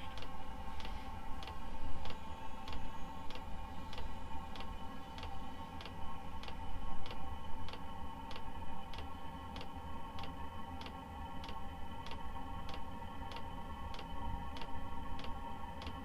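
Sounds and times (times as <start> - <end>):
heater fan whine: 0.0 - 16.0.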